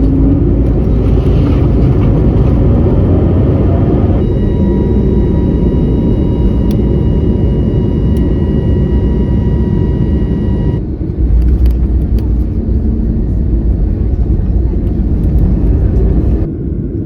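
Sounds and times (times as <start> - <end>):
jet engine high whine: 0.0 - 17.0
jet engine low rumble: 0.0 - 17.0.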